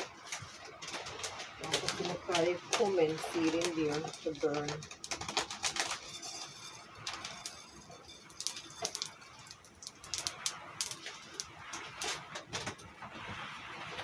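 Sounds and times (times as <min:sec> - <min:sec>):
seeds crackling in hot oil: 0:00.0 - 0:14.0.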